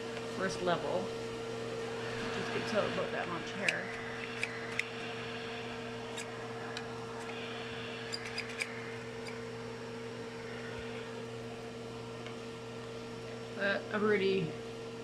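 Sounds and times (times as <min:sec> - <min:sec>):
vacuum motor hum: 0:00.0 - 0:15.0.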